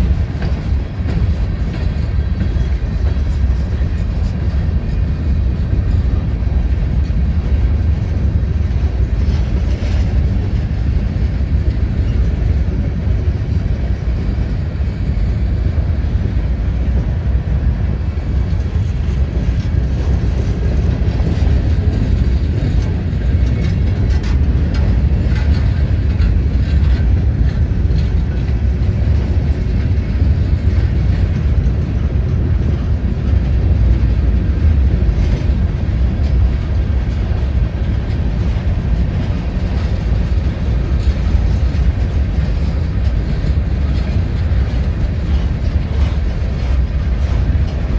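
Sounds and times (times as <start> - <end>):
freight train rumbling past: 0.0 - 47.9.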